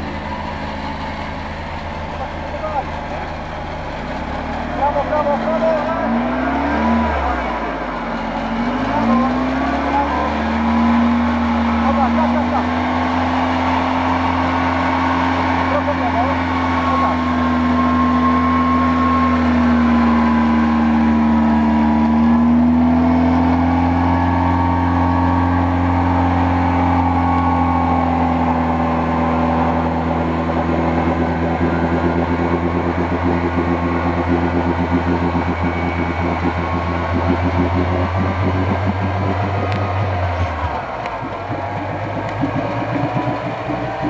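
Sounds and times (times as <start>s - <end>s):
car engine droning under load: 0.0s - 44.0s.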